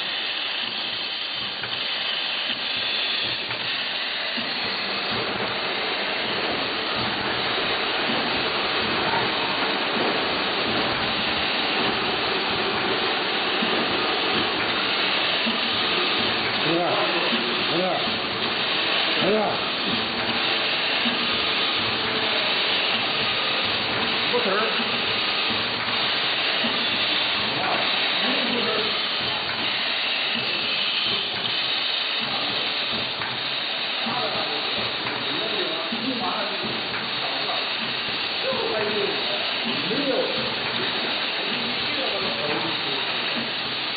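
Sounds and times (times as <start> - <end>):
tapping machine hissing: 0.0 - 43.9.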